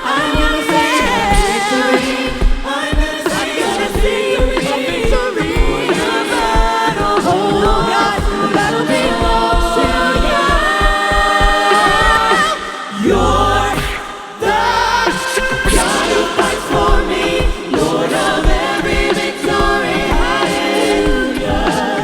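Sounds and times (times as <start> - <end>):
steady drum beat: 0.0 - 12.7, 13.5 - 22.0
gospel choir singing: 0.0 - 22.0.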